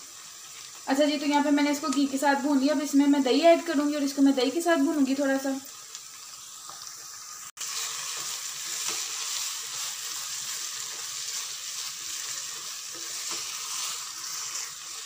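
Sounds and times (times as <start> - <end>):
meat sizzling in a wok: 0.0 - 15.0.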